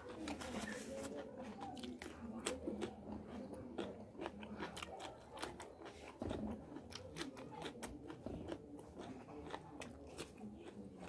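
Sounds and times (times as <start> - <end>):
close chewing and biting food: 0.0 - 11.0.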